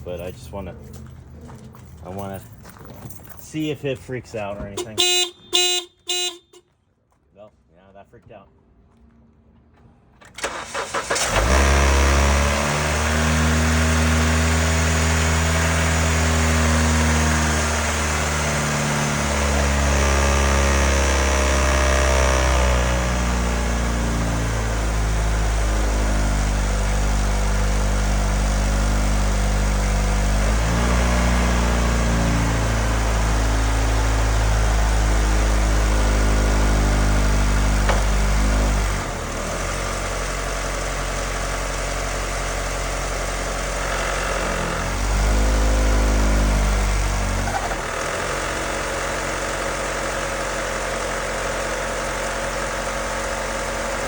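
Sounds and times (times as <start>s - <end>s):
car engine starting and idling: 0.0s - 6.6s, 10.2s - 54.0s.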